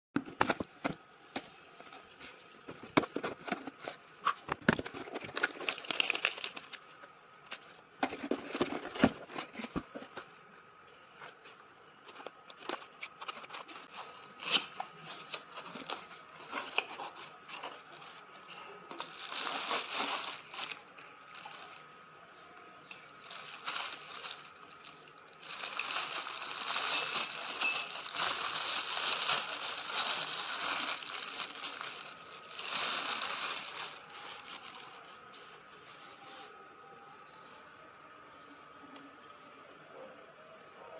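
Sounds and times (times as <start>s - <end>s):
wrapping rustling and crinkling: 0.4s - 36.5s.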